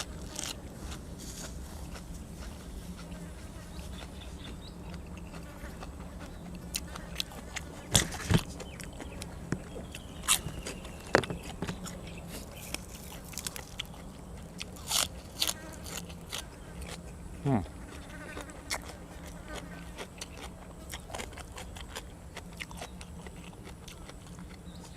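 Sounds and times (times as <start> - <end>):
person chewing and crunching: 0.0 - 24.9.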